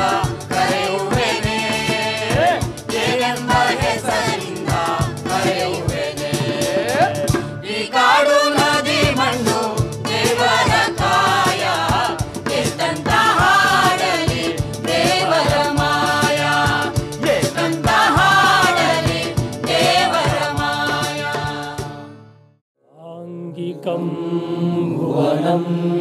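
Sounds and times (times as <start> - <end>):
steady drum beat: 0.0 - 22.0
group of voices singing: 0.0 - 22.2, 22.9 - 26.0.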